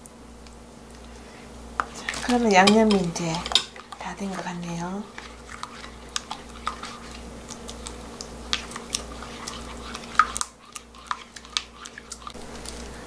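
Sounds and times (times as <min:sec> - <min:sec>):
spatula stirring thick paste: 0:01.0 - 0:12.8.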